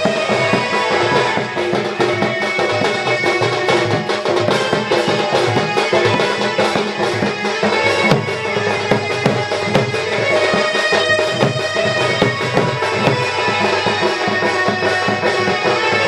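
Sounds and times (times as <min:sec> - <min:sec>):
barrel drum beaten with stick: 0:00.0 - 0:16.0.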